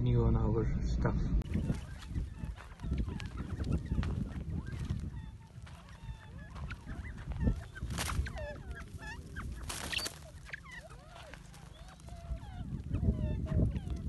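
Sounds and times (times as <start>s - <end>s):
game birds chirping and whistling: 1.4s - 14.0s.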